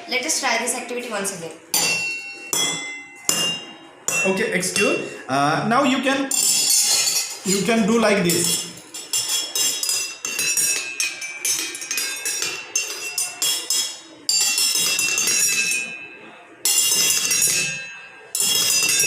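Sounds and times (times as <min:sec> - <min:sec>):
water glasses ringing when struck: 0:01.7 - 0:05.3, 0:06.2 - 0:19.0.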